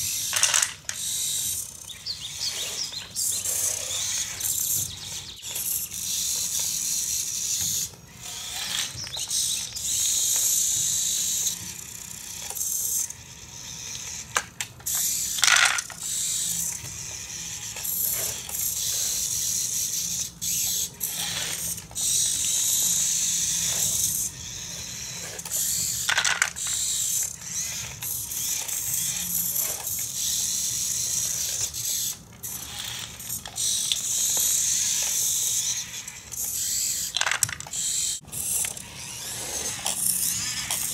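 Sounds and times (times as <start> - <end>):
small electric motors whining: 0.0 - 40.9.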